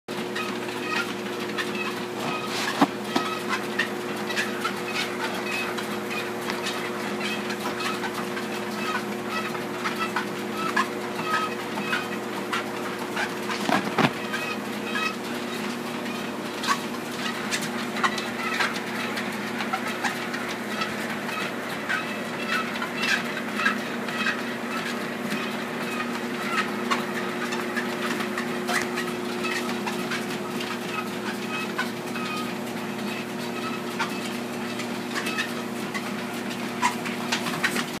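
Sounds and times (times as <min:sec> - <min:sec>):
treadmill motor humming: 0:00.1 - 0:38.0.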